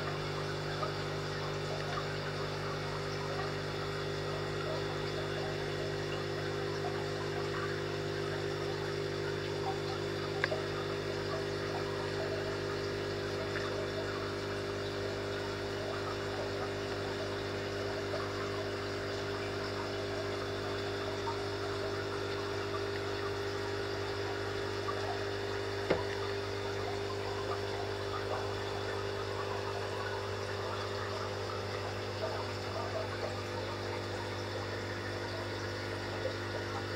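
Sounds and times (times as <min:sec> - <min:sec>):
aquarium pump humming: 0:00.0 - 0:36.9
water trickling and bubbling: 0:00.0 - 0:36.9.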